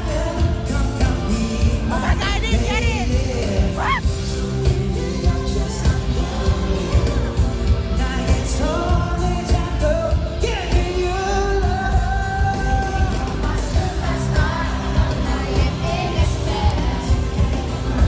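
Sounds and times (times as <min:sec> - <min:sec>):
heavy bass beat: 0:00.0 - 0:18.0.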